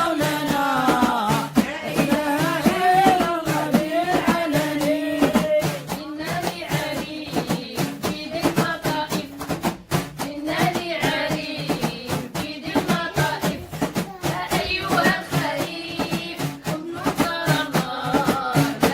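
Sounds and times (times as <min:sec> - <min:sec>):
devotional chanting: 0:00.0 - 0:18.9
percussion strokes: 0:00.0 - 0:18.9.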